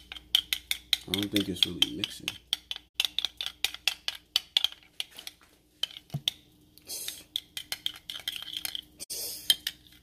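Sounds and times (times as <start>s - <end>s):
utensil beating batter in bowl: 0.0s - 8.8s.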